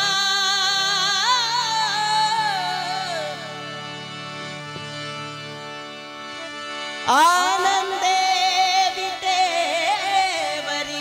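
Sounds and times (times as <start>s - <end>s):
harmonium chord: 0.0s - 11.0s.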